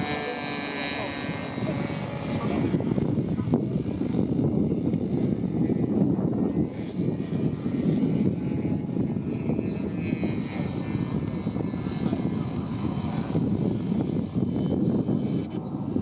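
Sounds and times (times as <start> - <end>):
model plane petrol engine: 0.0 - 16.0
propeller drone: 0.0 - 16.0.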